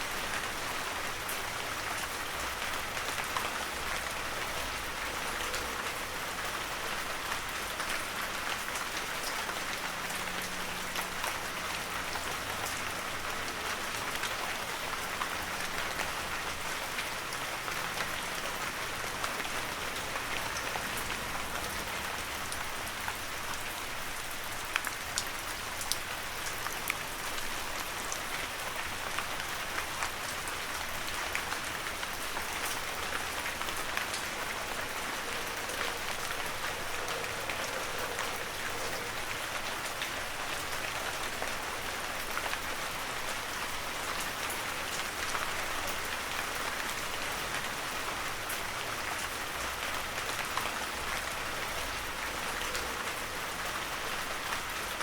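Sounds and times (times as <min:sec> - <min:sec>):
raindrops pattering and ticking: 0:00.0 - 0:55.0.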